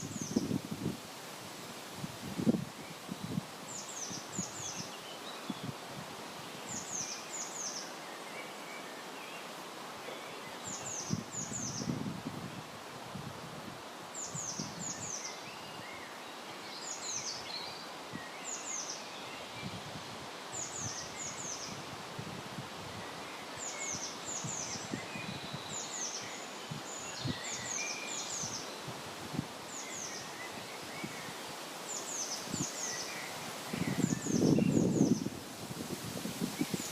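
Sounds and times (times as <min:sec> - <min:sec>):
wind in leaves: 0:00.0 - 0:36.9.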